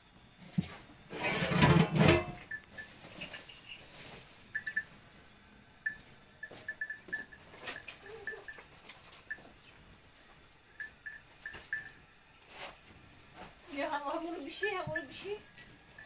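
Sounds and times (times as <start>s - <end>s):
faint goat herd: 0.2s - 16.0s.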